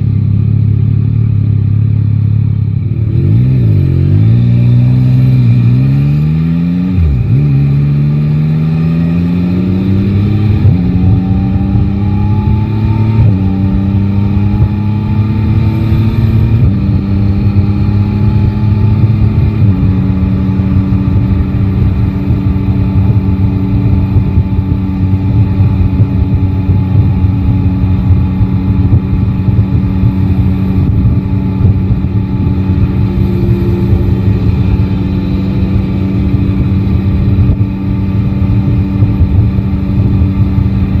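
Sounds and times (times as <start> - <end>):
motorcycle engine accelerating: 0.0 - 41.0
road and wind noise: 0.0 - 41.0.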